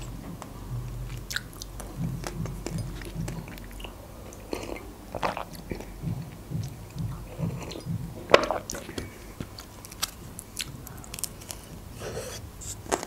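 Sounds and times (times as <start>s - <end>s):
chewing pastry: 0.0s - 13.0s.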